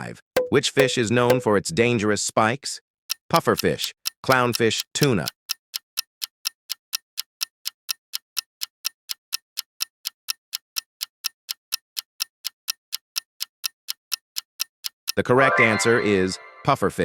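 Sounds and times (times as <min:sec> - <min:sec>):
countdown timer ticking: 0:00.4 - 0:01.6, 0:03.1 - 0:17.0.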